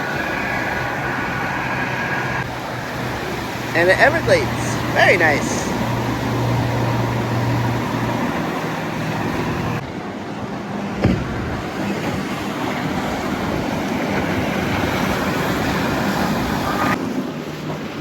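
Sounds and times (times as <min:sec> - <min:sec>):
motorboat engines: 0:00.0 - 0:18.0
wind and water noise: 0:00.0 - 0:18.0.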